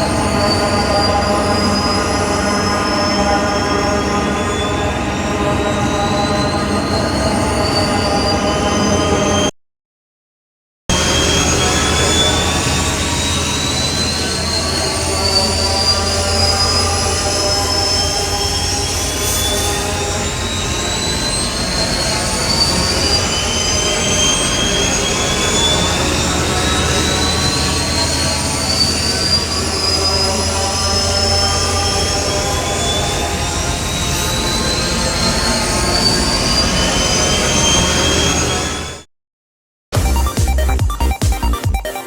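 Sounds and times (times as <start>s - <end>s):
sci-fi engine hum with whine: 0.0s - 9.5s, 10.9s - 39.1s.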